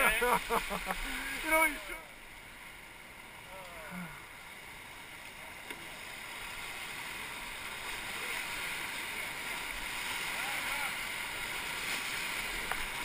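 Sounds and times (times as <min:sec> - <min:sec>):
rushing whitewater: 0:00.0 - 0:13.0.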